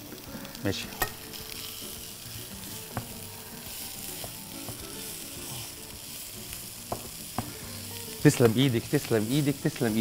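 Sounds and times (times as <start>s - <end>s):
meat and onions sizzling in a pan: 0.0s - 10.0s.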